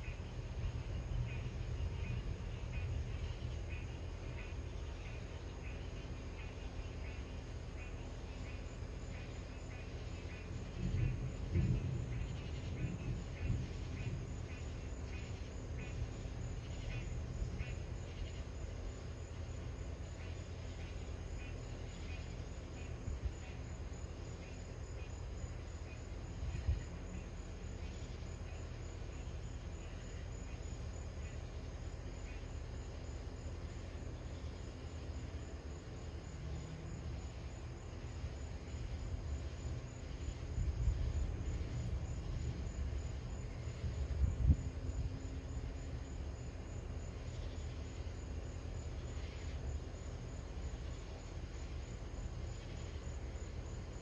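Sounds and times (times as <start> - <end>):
crickets chirping: 0.0 - 54.0
steady low rumble: 0.0 - 54.0.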